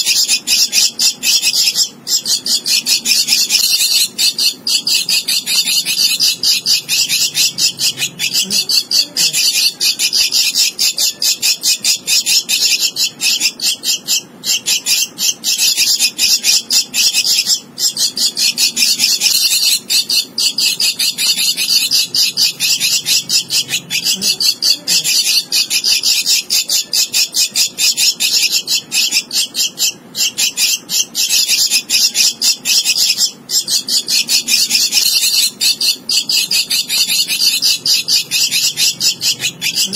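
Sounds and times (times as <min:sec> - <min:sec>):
bird chick begging calls: 0:00.0 - 0:39.9.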